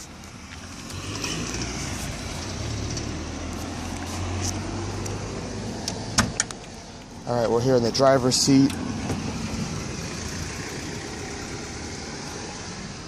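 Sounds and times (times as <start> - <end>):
passing vehicle engine and tyres: 0.0 - 13.0.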